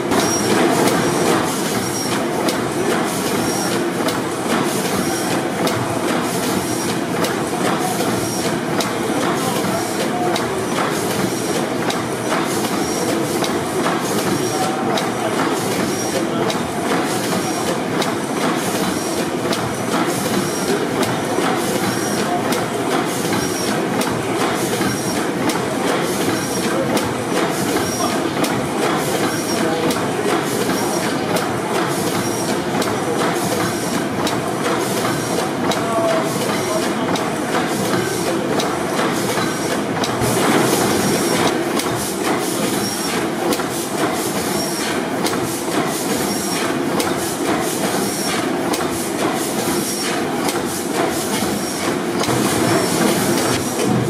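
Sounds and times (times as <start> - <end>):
gas engine mechanical clatter: 0.1 - 54.0.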